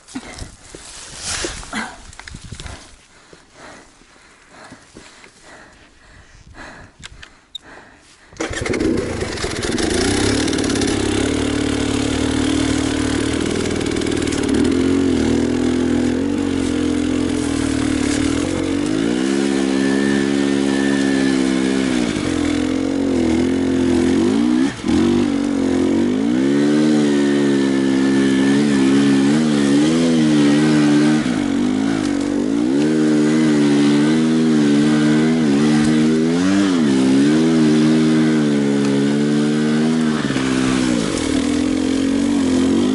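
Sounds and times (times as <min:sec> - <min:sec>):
motorcycle engine revving: 0:08.4 - 0:42.9.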